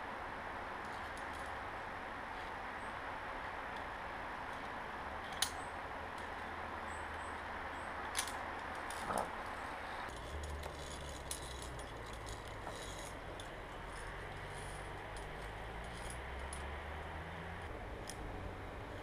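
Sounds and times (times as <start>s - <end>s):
carabiners clinking on steel cable: 0.8s - 1.7s, 3.8s - 18.2s.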